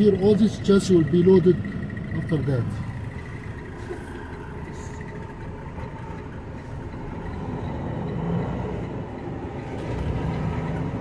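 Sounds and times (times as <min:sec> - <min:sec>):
road noise: 0:00.0 - 0:11.0
truck diesel engine rumble: 0:00.0 - 0:11.0.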